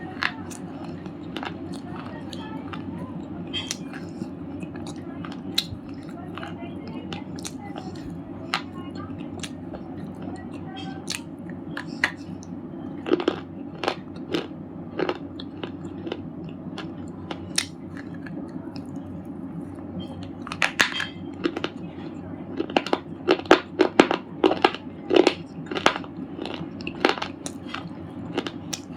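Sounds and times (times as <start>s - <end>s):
chewing crunches: 0.0s - 28.9s.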